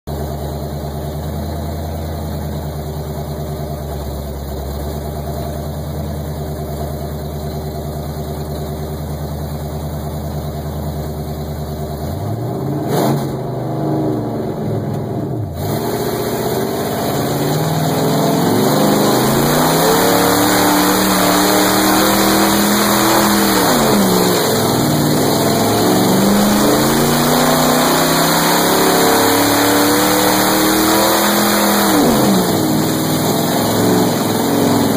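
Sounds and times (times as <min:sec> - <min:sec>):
truck engine idling and revving: 0:00.1 - 0:34.9.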